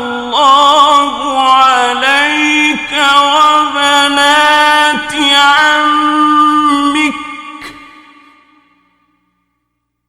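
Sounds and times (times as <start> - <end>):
man reciting in echoing voice: 0.0 - 9.4.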